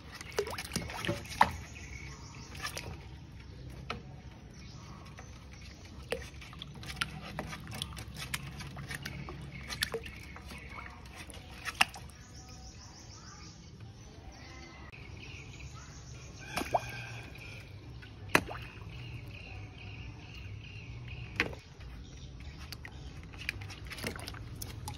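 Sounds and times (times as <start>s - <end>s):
water sloshing and dripping: 0.0s - 12.8s, 14.9s - 24.9s.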